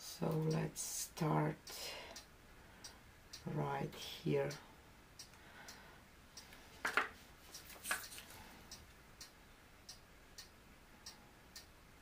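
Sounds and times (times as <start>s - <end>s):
faint regular ticking: 0.1s - 12.0s.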